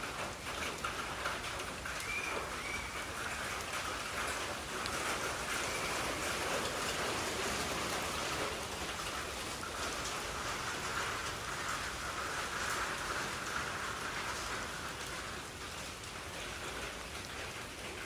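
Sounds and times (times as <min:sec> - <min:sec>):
rain falling steadily: 0:00.0 - 0:18.0.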